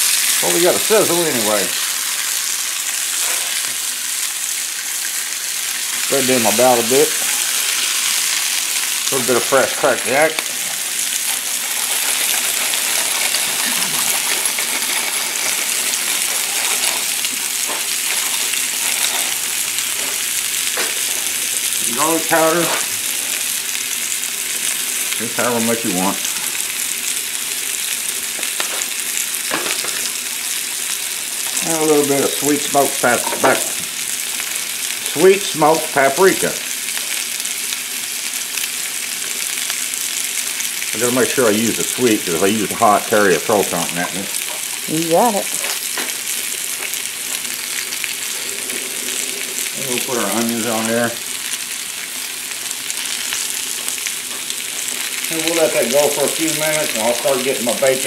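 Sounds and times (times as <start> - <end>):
potatoes sizzling in oil: 0.0 - 58.0.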